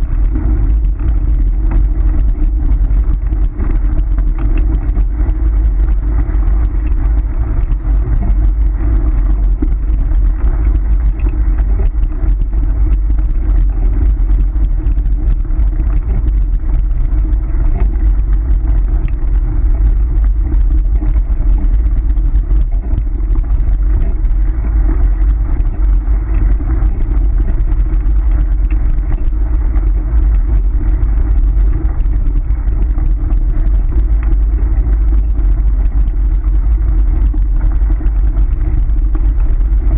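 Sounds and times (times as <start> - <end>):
wheels rumbling on gravel: 0.0 - 39.9.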